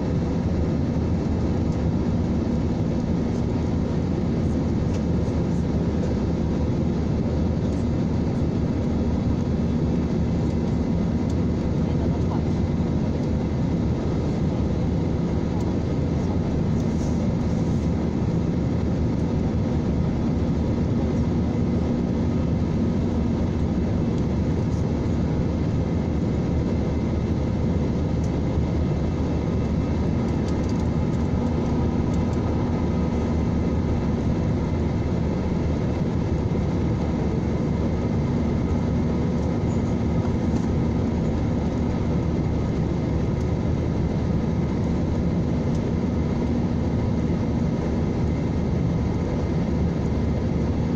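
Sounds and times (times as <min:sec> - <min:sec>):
jet engine roar: 0:00.0 - 0:50.9.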